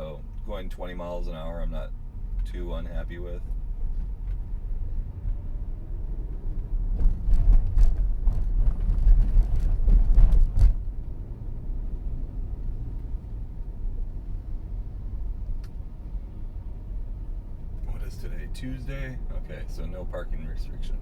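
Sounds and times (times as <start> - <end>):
road and tyre rumble: 0.0 - 21.0.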